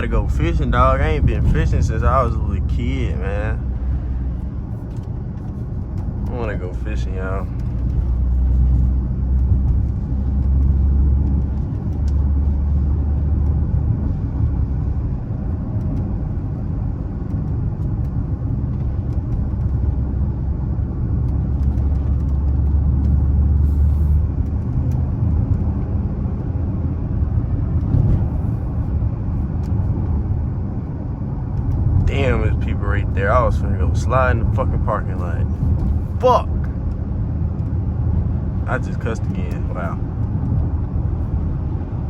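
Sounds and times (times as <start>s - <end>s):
car engine and tyre drone: 0.0s - 42.0s.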